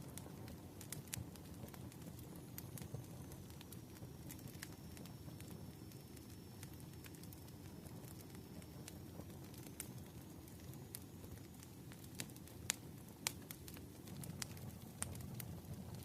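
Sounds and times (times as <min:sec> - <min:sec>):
fire crackling with pops and snaps: 0:00.0 - 0:16.0.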